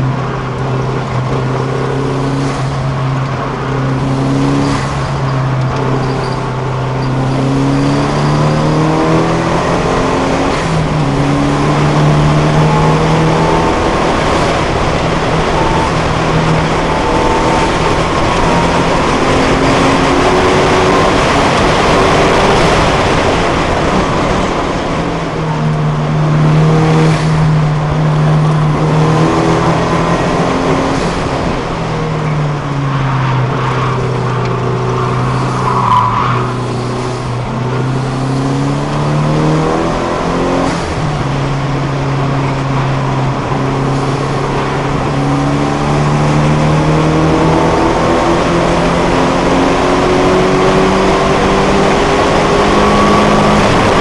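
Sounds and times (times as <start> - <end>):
racing car engine revving: 0.0 - 54.0
wind and road noise: 0.0 - 54.0.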